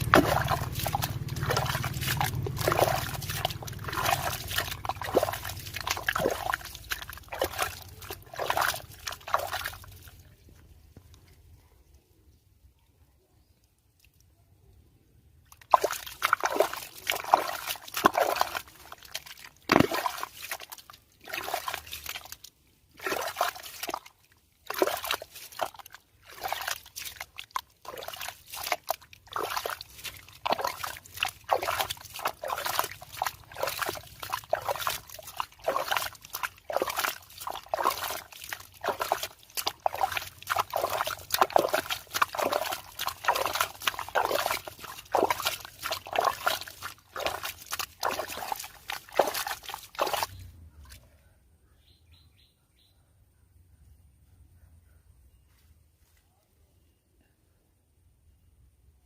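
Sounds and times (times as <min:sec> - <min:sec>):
muddy water sloshing and splashing: 0:00.0 - 0:11.5, 0:15.3 - 0:51.2.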